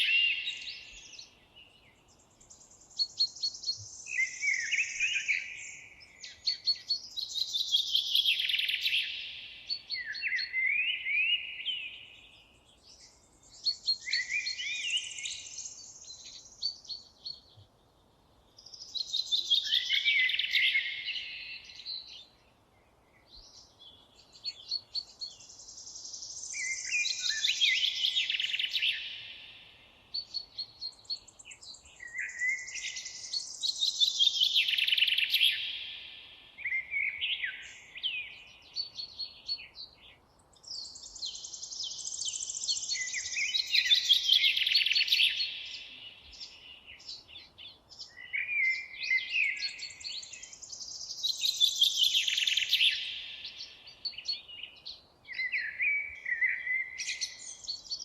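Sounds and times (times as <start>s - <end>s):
bird chirps: 0.0s - 17.6s, 18.6s - 22.4s, 23.2s - 58.0s
songbird singing: 0.0s - 58.0s.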